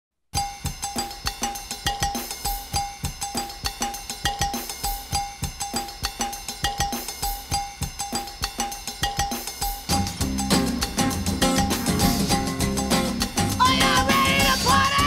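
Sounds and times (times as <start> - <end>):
drum beat with repeating note: 0.4 - 15.0.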